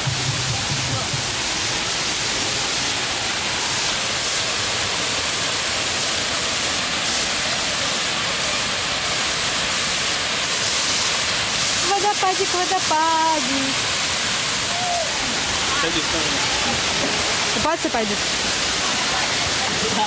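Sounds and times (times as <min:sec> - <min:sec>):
waterfall rushing over rocks: 0:00.0 - 0:20.0.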